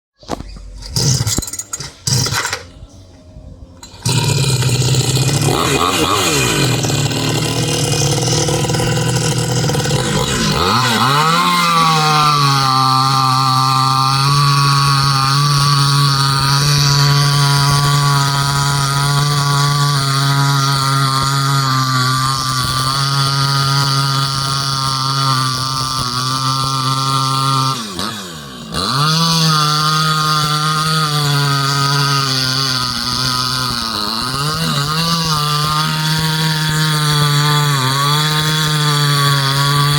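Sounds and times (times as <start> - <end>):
chainsaw running at high revs: 0.8 - 2.6, 3.8 - 39.9.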